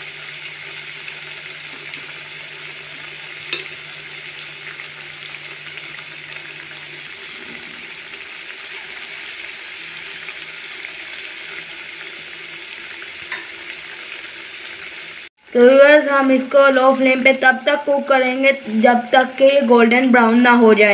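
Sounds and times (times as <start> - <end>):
food deep-frying in hot oil: 0.0 - 20.9.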